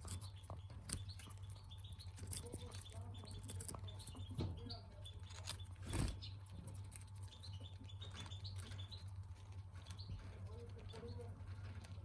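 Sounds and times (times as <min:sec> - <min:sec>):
budgerigars chirping: 0:00.0 - 0:06.6, 0:07.2 - 0:09.2, 0:09.8 - 0:11.4
small clicks and scratching: 0:00.0 - 0:12.0.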